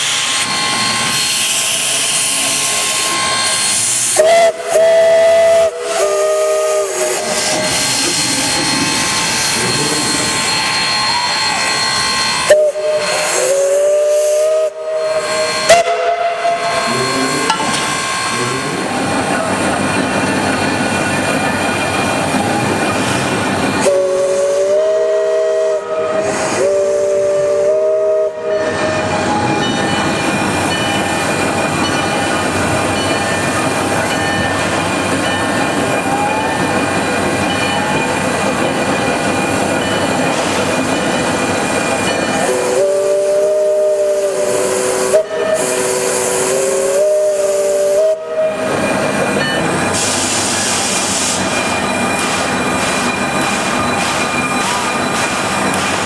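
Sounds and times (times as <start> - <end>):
steam locomotive chime whistle: 0.0 - 19.8, 21.5 - 55.5
steam hissing: 0.0 - 56.0.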